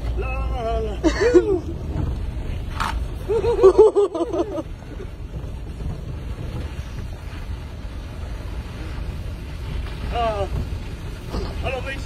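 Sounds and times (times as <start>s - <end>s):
car engine and tyres rumbling: 0.0s - 12.0s
wind buffeting microphone: 0.0s - 12.0s.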